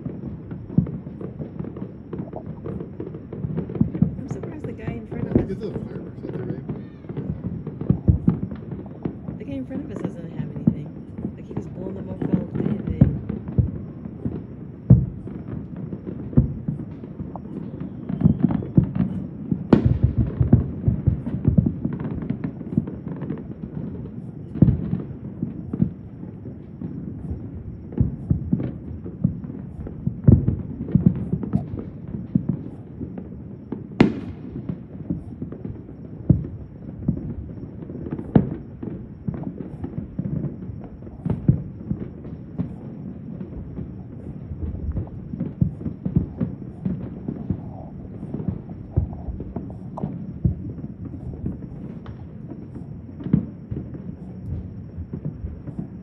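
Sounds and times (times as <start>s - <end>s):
sharp firework cracks: 0.0s - 9.9s, 12.2s - 56.0s
distant fireworks booming: 0.0s - 56.0s.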